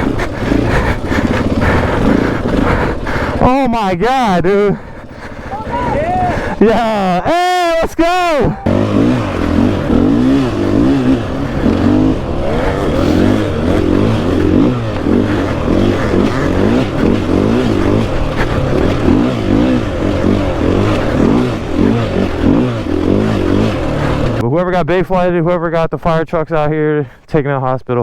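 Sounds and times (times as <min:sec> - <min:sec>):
dirt bike engine revving: 0:00.0 - 0:24.4.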